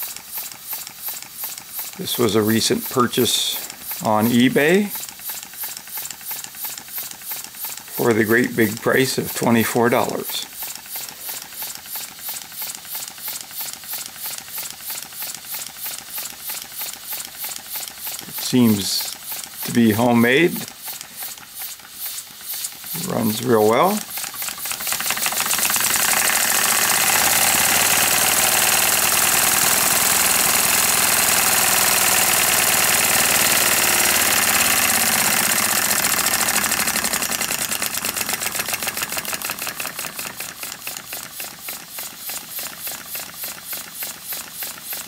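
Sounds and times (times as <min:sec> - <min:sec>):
model steam engine chuffing: 0:00.0 - 0:45.0.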